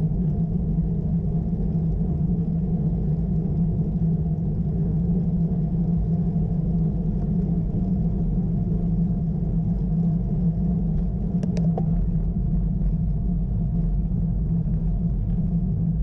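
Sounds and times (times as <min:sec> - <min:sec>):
wind and road noise rumble: 0:00.0 - 0:16.0.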